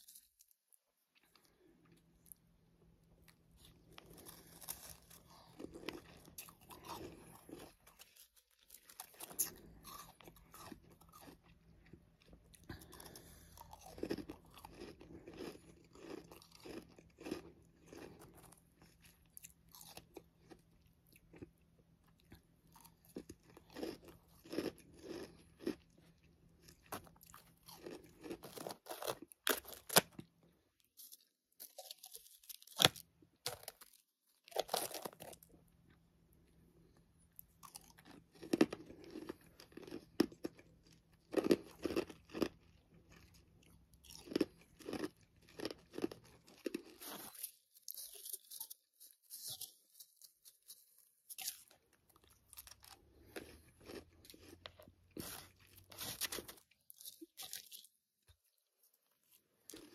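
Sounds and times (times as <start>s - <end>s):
frost being chewed: 0.0s - 59.9s.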